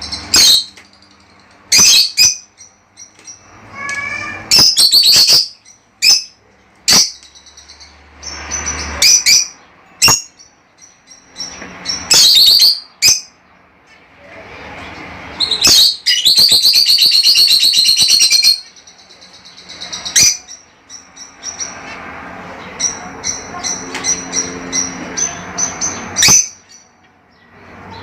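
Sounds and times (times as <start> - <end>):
budgerigars chirping and squawking: 0.0 - 13.4, 14.5 - 28.0.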